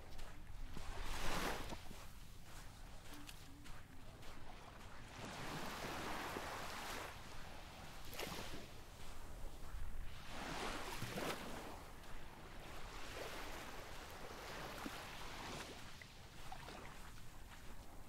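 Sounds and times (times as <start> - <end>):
faint surf on beach: 0.0 - 18.0.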